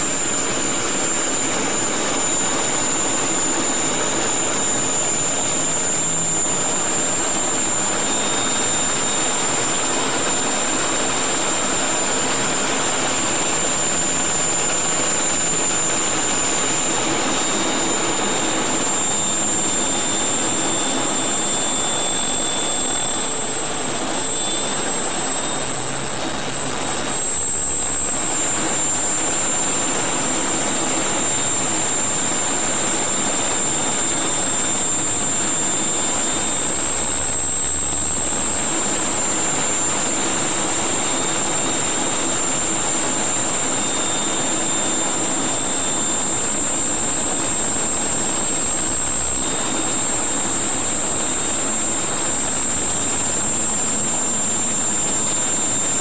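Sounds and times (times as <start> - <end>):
jet engine rush and airflow: 0.0 - 56.0
thin high whine: 0.0 - 56.0.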